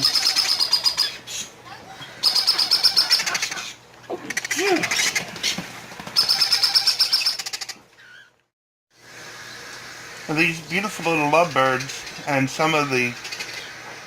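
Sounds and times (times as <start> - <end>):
parrot chicks begging chirps: 0.0 - 8.4, 10.3 - 14.0.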